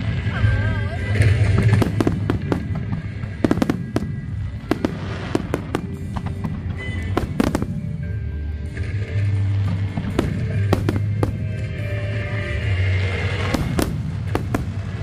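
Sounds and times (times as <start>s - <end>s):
fireworks bangs and cracks: 0.0s - 15.0s
music playing: 0.0s - 15.0s.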